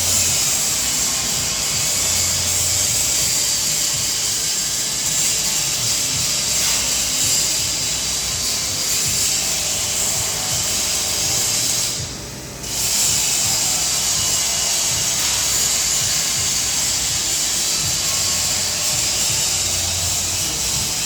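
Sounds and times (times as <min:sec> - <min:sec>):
workshop tool hissing: 0:00.0 - 0:21.0.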